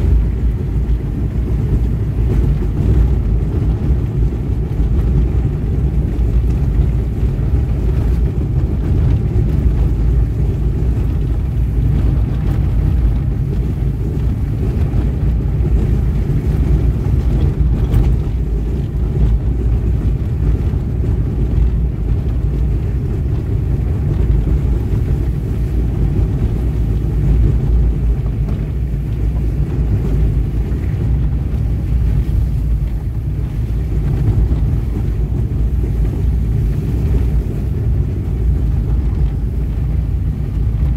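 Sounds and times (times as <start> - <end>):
deep steady rumble: 0.0 - 40.9.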